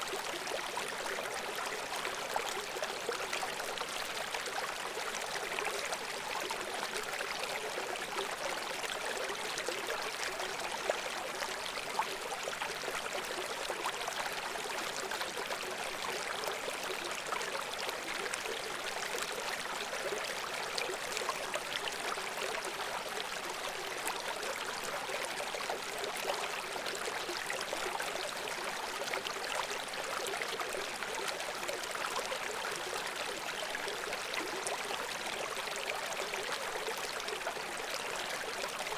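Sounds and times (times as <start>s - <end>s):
brook flowing over stones: 0.0s - 38.9s.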